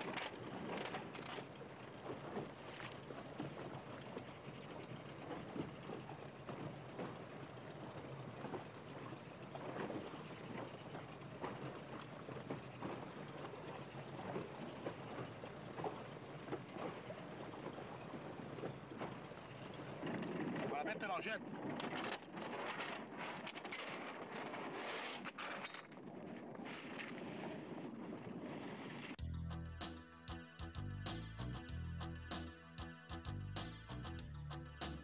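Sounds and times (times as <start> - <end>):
water slapping boat hull: 0.0 - 29.2.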